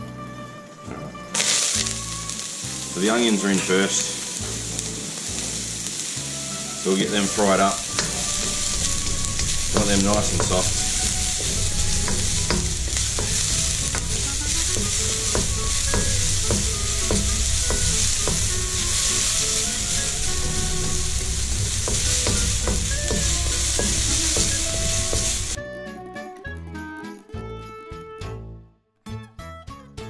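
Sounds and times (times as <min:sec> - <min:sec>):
onion sizzling in oil: 0:00.6 - 0:25.6
spatula scraping wok: 0:01.3 - 0:25.6.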